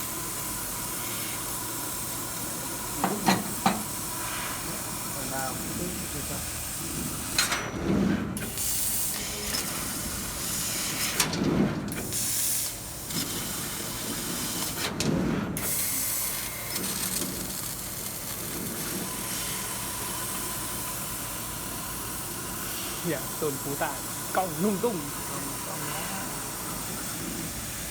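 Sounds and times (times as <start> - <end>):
laser cutter gas hiss: 0.0 - 7.6, 8.4 - 11.2, 12.0 - 14.9, 15.6 - 27.9.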